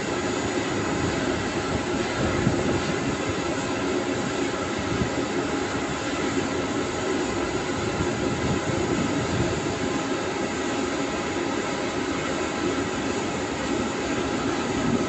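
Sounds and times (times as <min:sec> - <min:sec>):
faint jet engine whine: 0:00.0 - 0:15.0
jet engines rumbling: 0:00.0 - 0:15.0.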